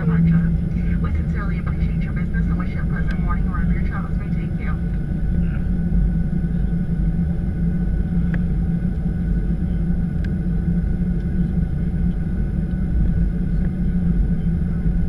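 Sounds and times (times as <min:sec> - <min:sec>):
airplane cabin low rumble: 0:00.0 - 0:15.0.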